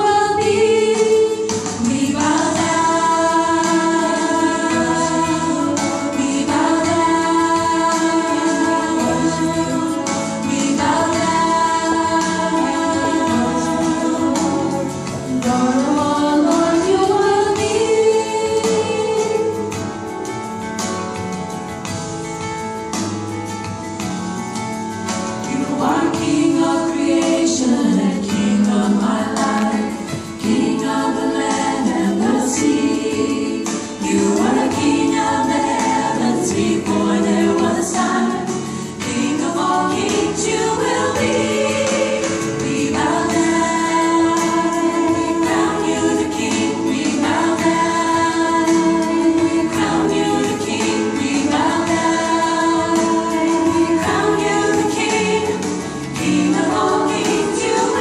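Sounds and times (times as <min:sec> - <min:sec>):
female group singing gospel: 0:00.0 - 0:20.4, 0:25.2 - 0:58.0.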